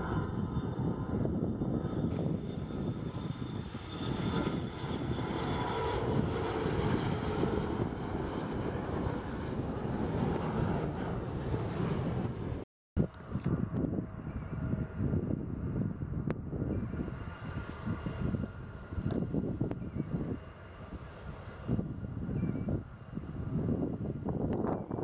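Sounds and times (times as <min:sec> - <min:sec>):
jet engines at takeoff: 0:00.0 - 0:25.0.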